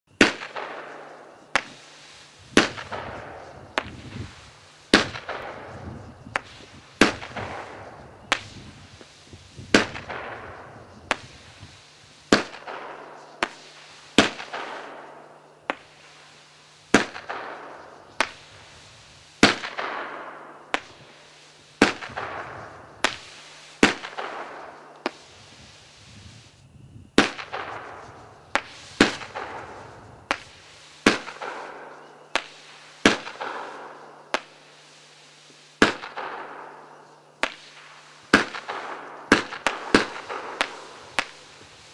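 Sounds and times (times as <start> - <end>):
firework bangs: 0.1 - 35.0, 35.8 - 41.9.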